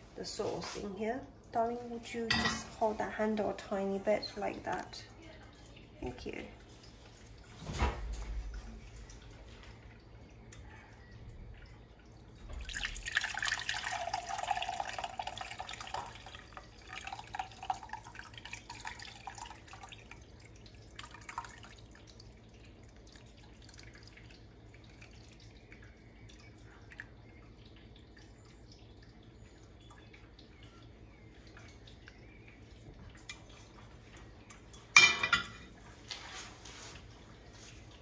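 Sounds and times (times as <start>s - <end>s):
liquid pouring and dripping: 3.4s - 38.0s.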